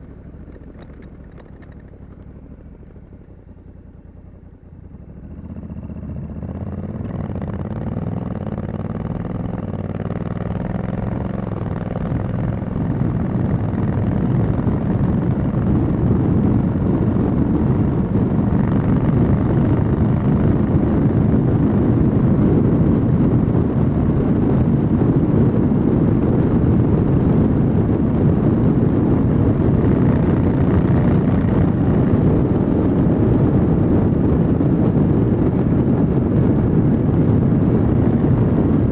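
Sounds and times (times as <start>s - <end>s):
motorcycle engine accelerating: 0.0s - 38.9s
wind rushing on microphone: 5.2s - 38.9s.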